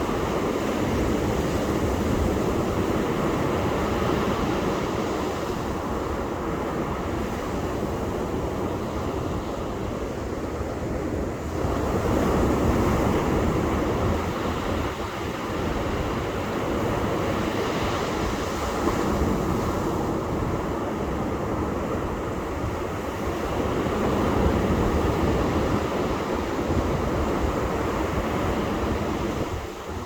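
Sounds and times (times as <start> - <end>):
ocean surf washing onto beach: 0.0 - 30.0.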